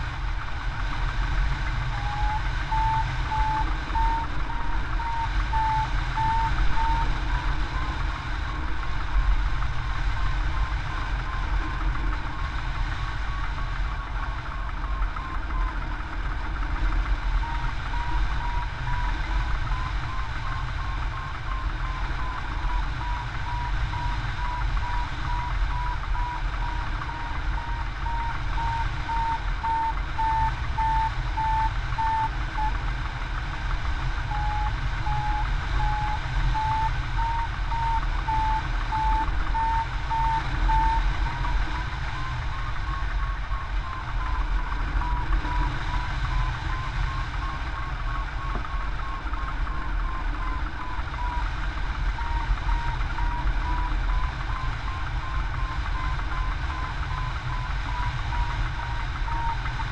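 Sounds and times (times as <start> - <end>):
variometer beeping: 0.2 - 59.9.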